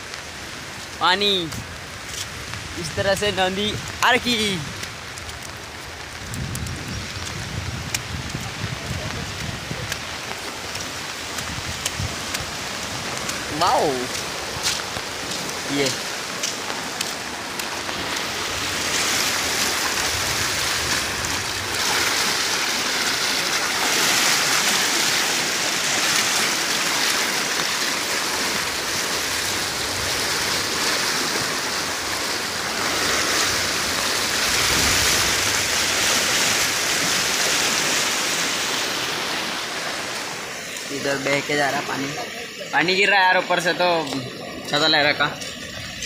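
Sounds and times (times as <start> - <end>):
rain falling on an umbrella: 0.0 - 46.0
river water rushing: 0.0 - 46.0.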